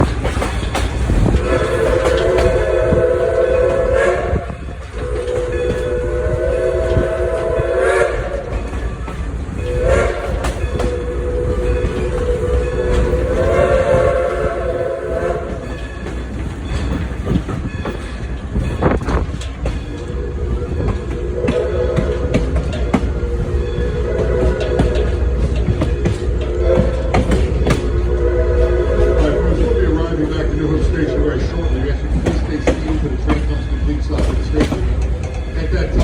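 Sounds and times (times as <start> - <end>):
train rumble and wheel clatter: 0.0 - 36.0.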